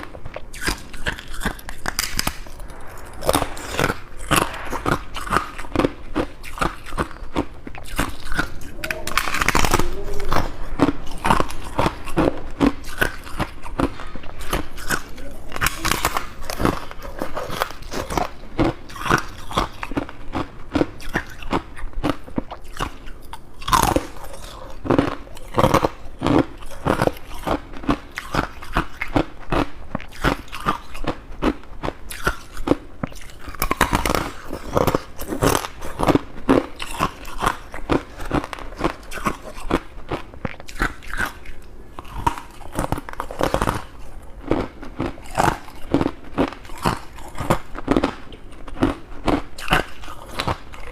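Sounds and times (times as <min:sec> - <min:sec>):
person chewing crunchy frost: 0:00.0 - 0:50.9.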